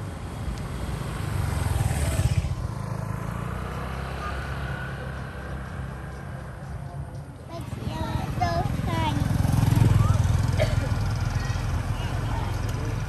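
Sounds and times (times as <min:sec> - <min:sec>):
motor scooter passing: 0:00.0 - 0:13.0.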